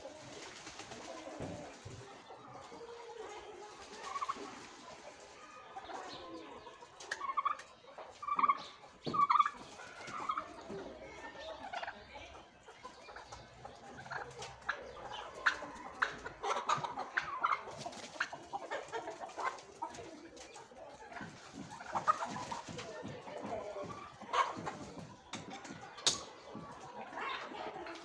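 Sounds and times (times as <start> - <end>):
turkeys calling: 0.0 - 28.0.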